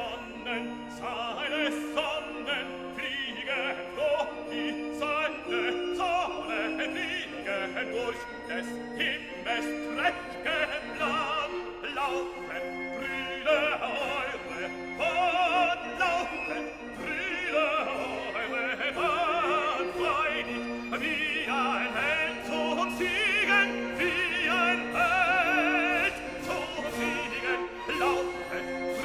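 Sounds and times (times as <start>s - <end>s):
operatic singing with vibrato: 0.0s - 29.0s
orchestral accompaniment: 0.0s - 29.0s.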